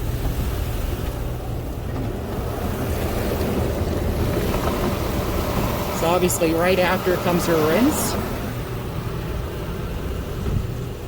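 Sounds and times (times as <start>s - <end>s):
water spray rushing: 0.0s - 10.1s
cloth washers scrubbing car: 0.0s - 11.0s.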